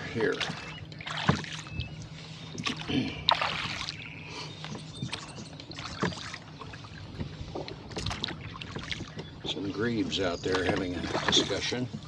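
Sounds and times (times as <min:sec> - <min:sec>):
oar strokes: 0:00.0 - 0:04.0, 0:04.6 - 0:12.0
water slapping against hull: 0:00.0 - 0:12.0.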